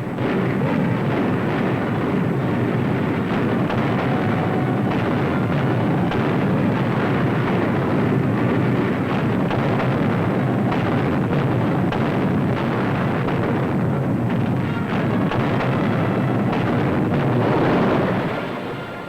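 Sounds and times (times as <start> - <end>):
anti-aircraft gunfire: 0.0 - 19.0
explosions: 0.0 - 19.0.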